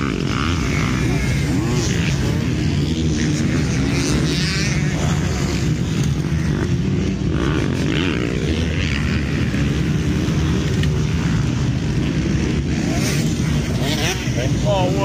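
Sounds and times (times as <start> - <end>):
motocross bikes racing: 0.0 - 15.0.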